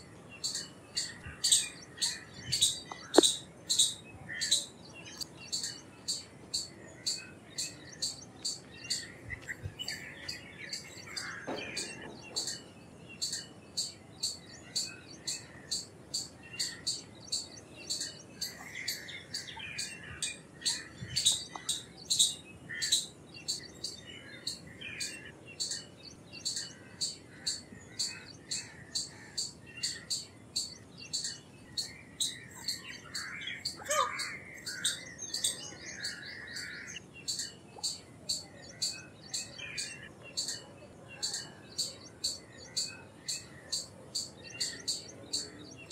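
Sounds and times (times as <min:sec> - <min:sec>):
birds chirping: 0:00.0 - 0:45.9
squirrel chip calls: 0:00.0 - 0:45.9.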